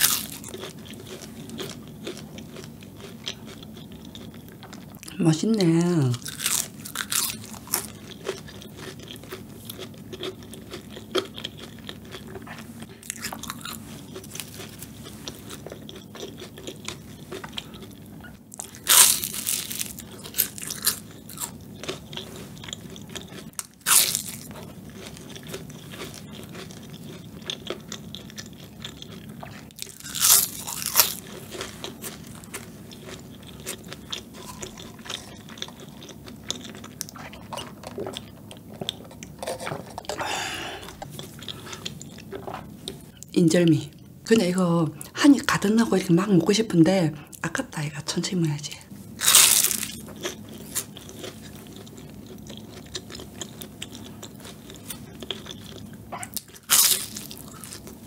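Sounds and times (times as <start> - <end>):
crunchy pastry chewing: 0.0 - 5.2, 6.1 - 43.2, 49.1 - 58.0.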